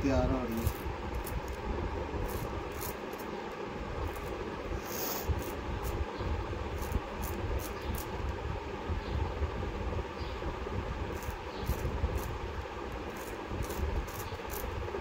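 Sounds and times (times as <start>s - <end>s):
background rumble and hiss: 0.0s - 15.0s.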